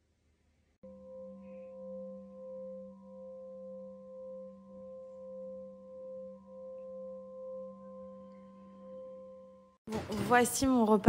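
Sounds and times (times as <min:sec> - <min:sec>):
singing bowl humming: 0:00.8 - 0:09.8.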